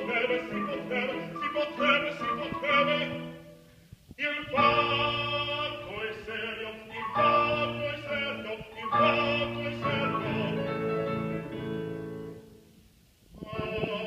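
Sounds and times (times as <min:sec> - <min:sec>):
man singing operatic style: 0:00.0 - 0:03.6, 0:04.2 - 0:12.2, 0:13.4 - 0:14.0
grand piano: 0:00.0 - 0:14.0.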